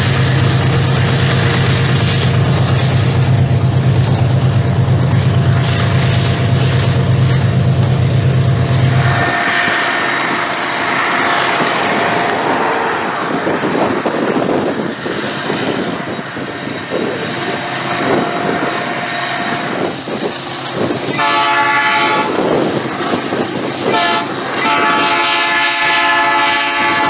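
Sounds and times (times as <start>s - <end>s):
distant train noise: 0.0s - 27.0s
locomotive engine rumble: 0.0s - 27.0s.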